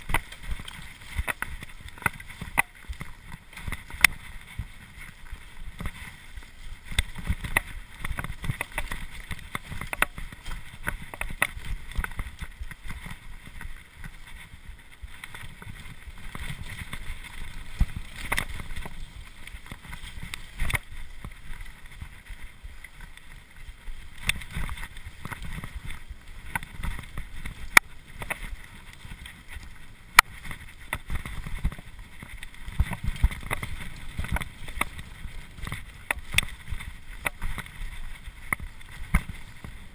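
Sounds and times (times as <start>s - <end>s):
bike rattling over bumps: 0.0s - 39.9s
bike tyres rumbling on dirt: 0.0s - 39.9s.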